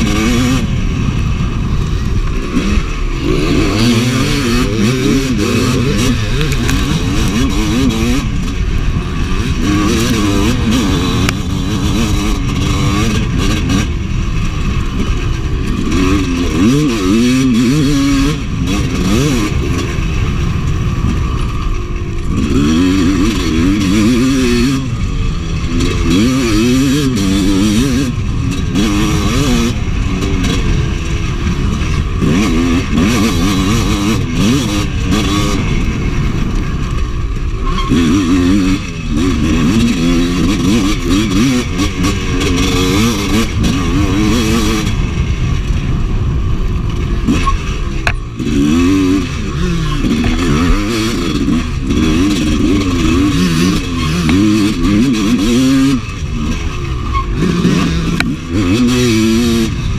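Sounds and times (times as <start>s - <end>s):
two-stroke dirt bike revving: 0.0s - 59.9s.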